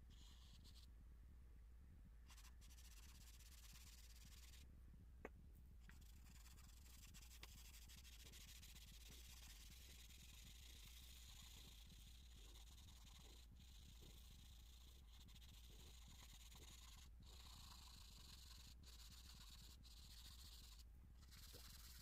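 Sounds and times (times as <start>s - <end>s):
low steady hum: 0.0s - 22.0s
charcoal scratching on paper: 0.1s - 0.9s, 2.3s - 4.6s, 5.8s - 22.0s.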